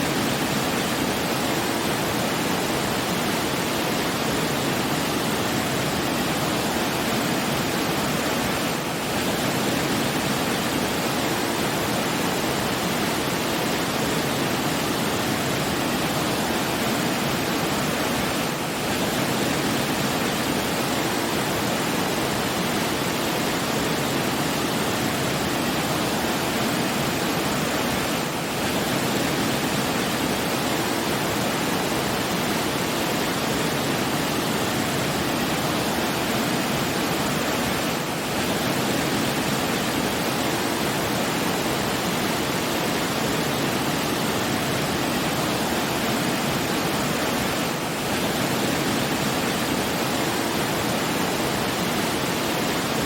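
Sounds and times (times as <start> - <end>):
falling water rushing: 0.0 - 53.0.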